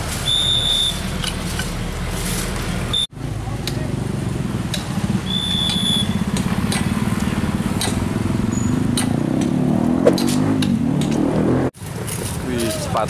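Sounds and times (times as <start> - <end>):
motorcycle engines puttering: 0.0 - 13.0.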